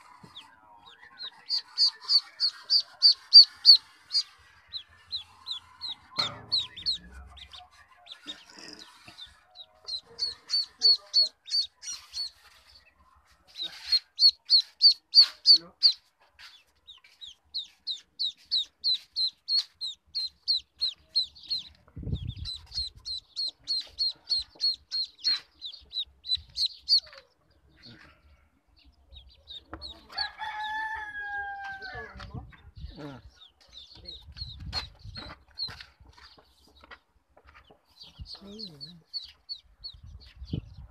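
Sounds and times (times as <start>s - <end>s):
ducklings peeping: 0.0s - 30.3s, 32.2s - 40.9s.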